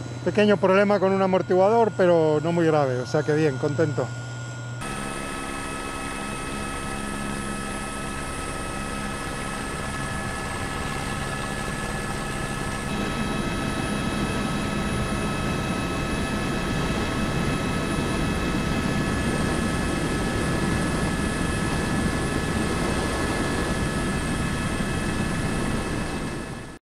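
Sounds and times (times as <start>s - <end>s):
helicopter rotor noise: 0.0s - 26.8s
helicopter turbine whine: 0.0s - 26.8s.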